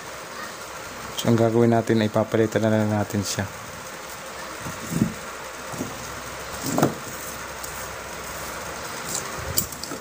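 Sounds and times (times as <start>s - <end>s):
steady low background noise: 0.0s - 10.0s.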